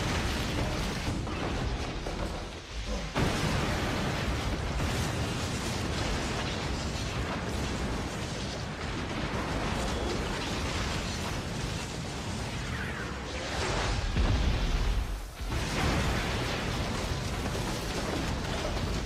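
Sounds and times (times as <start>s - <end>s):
breaking plating and flying debris: 0.0s - 19.0s.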